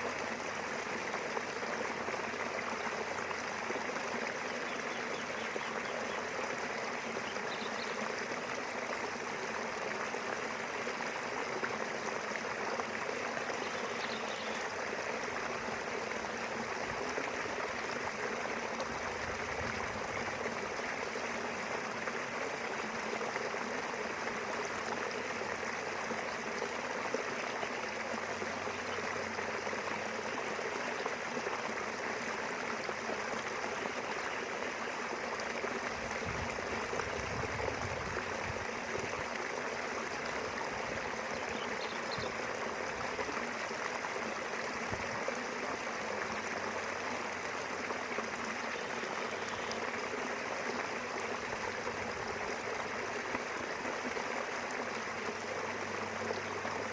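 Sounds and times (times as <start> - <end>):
flowing river water: 0.0 - 56.9.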